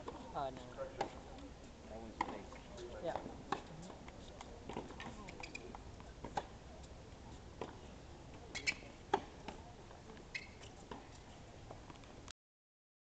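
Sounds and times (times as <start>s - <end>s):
tennis shoes squeaking: 0.0s - 11.4s.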